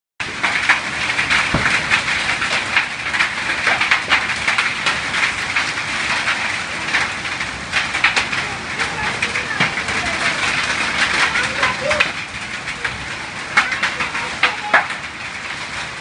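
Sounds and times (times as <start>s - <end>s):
heavy rain on dirt and foliage: 0.2s - 16.0s.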